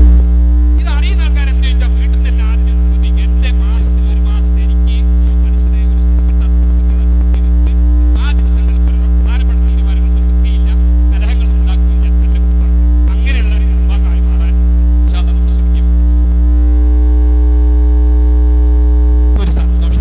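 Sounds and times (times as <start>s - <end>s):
electrical mains hum: 0.0s - 20.0s
faint man's voice: 0.8s - 16.8s, 19.4s - 20.0s.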